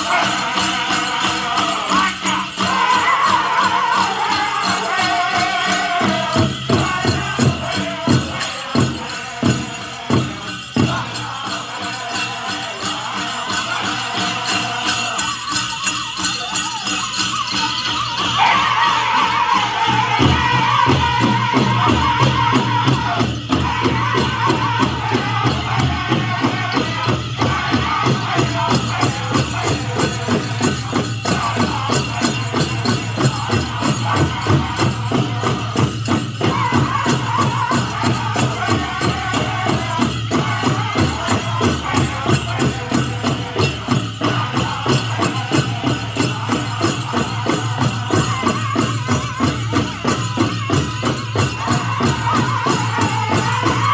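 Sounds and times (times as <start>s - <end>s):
big drum fast beat: 0.0s - 15.2s, 18.2s - 53.9s
group singing: 0.0s - 53.9s
jingling bells: 0.0s - 53.9s.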